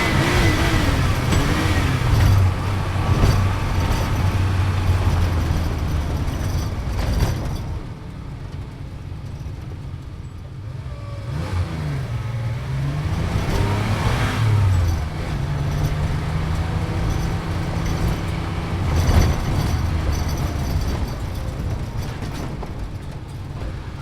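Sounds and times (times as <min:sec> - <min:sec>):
sports car engine from inside cabin: 0:00.0 - 0:22.5.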